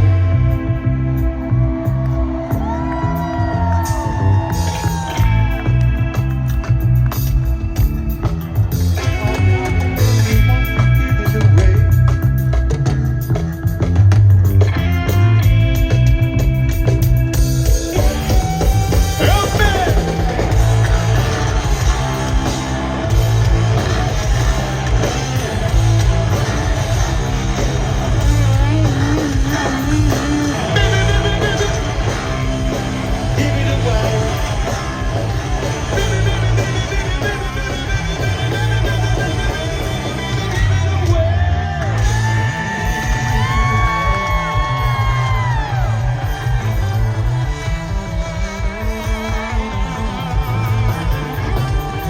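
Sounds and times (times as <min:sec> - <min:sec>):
live funk-rock band: 0:00.0 - 0:52.0.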